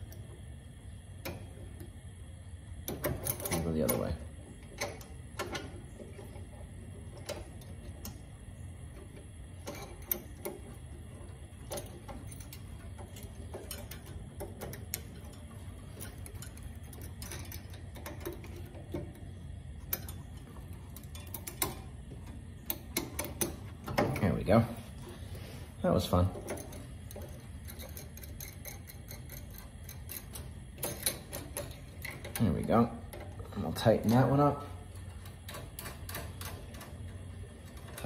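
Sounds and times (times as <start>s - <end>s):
small metallic clicks: 2.8s - 24.3s, 26.2s - 38.0s.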